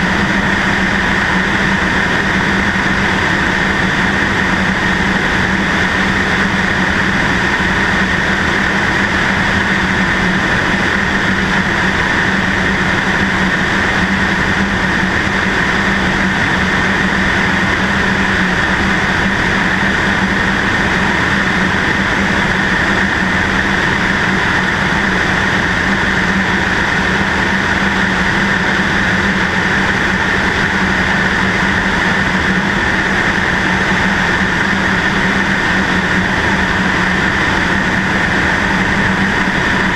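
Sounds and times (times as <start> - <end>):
airflow rushing: 0.0 - 39.9
propeller plane engine running: 0.0 - 39.9.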